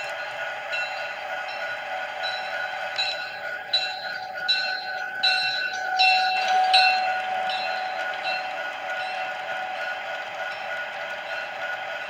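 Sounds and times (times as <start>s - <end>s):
steady whine of model train: 0.0s - 12.0s.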